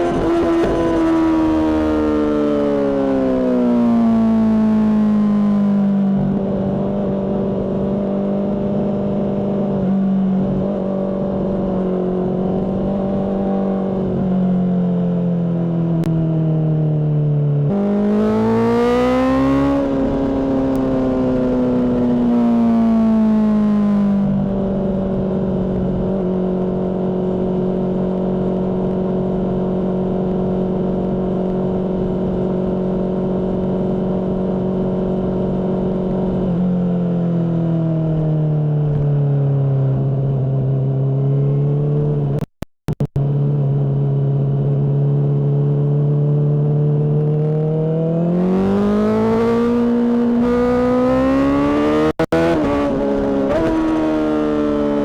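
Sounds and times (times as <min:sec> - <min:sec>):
motorcycle engine revving: 0:00.0 - 0:16.5, 0:17.5 - 0:38.2, 0:39.2 - 0:55.0.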